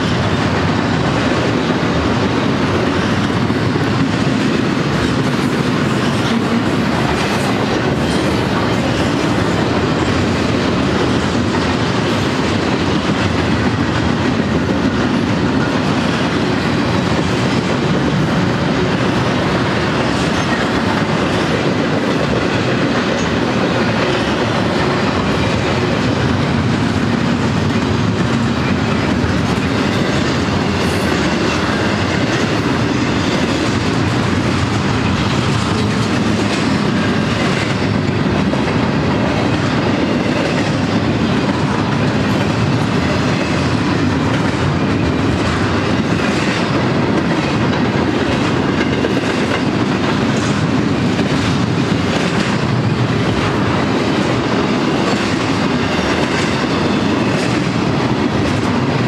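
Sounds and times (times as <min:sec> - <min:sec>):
clickety-clack of train wheels: 0:00.0 - 0:59.0
train wheels rumbling on rails: 0:00.0 - 0:59.0.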